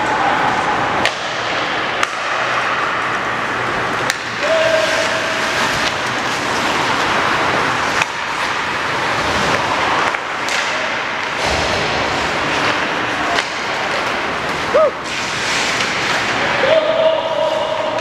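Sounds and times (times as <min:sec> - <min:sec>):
arena noise: 0:00.0 - 0:18.0
skates scraping ice: 0:00.0 - 0:18.0
stick hitting puck: 0:01.0 - 0:03.3, 0:03.9 - 0:18.0.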